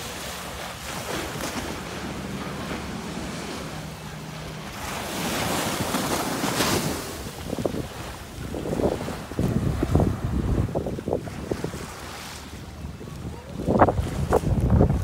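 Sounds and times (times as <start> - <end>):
waves washing onto beach: 0.0 - 15.0
wind buffeting microphone: 0.8 - 15.0.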